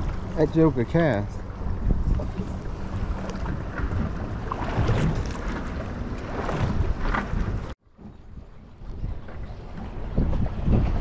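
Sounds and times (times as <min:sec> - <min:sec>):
water washing around boat: 0:00.0 - 0:11.0
wind buffeting microphone: 0:00.0 - 0:11.0.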